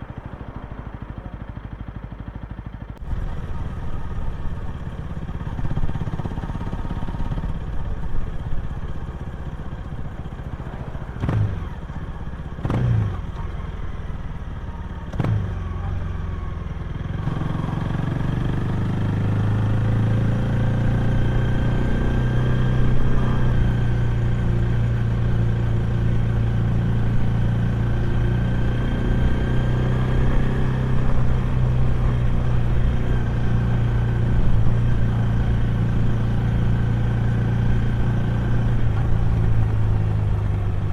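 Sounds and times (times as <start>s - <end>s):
motorcycle exhaust while riding: 0.0s - 40.9s.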